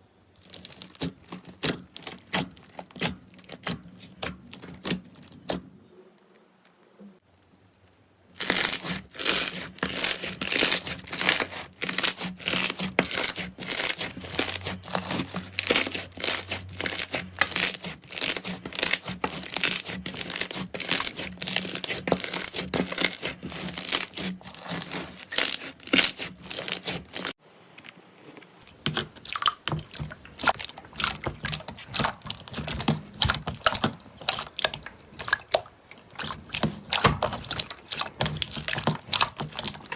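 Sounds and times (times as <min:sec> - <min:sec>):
slime crackling and popping: 0:00.4 - 0:05.6, 0:08.3 - 0:27.4, 0:28.7 - 0:39.9.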